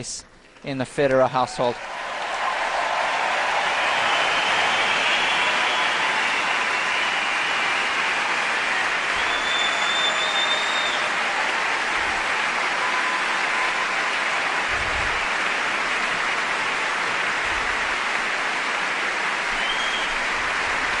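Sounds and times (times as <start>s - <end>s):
crowd applauding: 1.6s - 21.0s.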